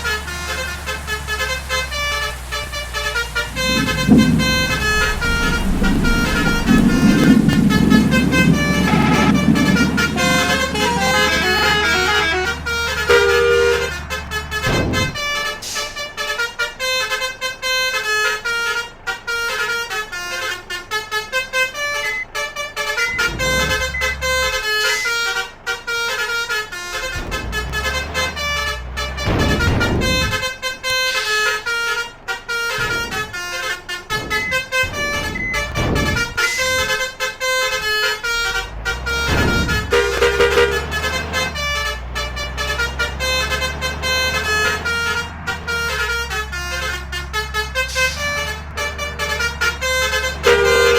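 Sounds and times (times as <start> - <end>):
bus engines rumbling: 0.0 - 50.9
musical bus horns: 0.0 - 50.9.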